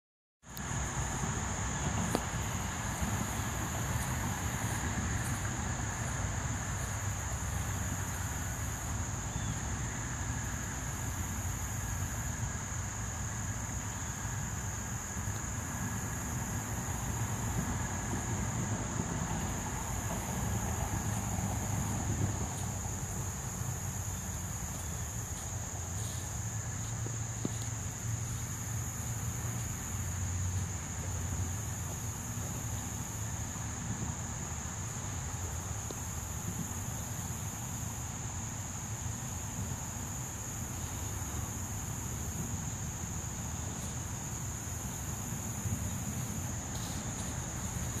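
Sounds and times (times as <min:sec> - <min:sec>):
insects chirring: 0:00.4 - 0:48.0.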